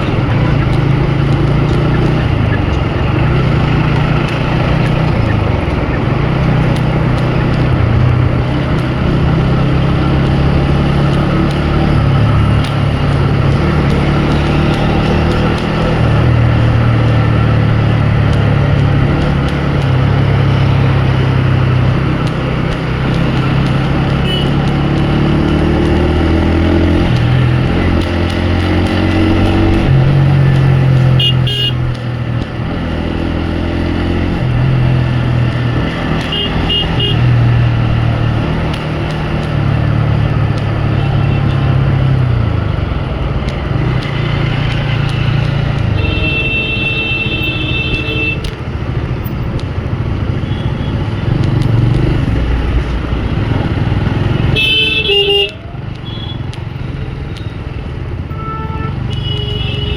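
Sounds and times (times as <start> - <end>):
motorcycle engine running: 0.0 - 58.2.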